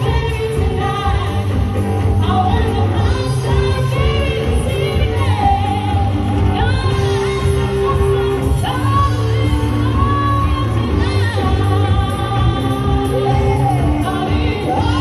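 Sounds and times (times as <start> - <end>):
live band playing amplified music: 0.0 - 15.0
person singing: 0.0 - 15.0.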